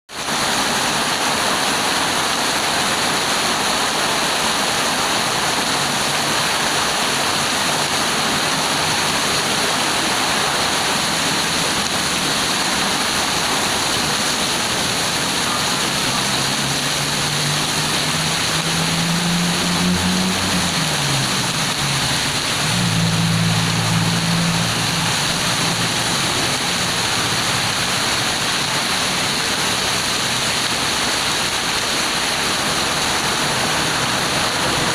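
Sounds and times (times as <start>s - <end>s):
heavy rain pouring: 0.1s - 34.9s
vehicle engine hum passing: 4.7s - 34.9s.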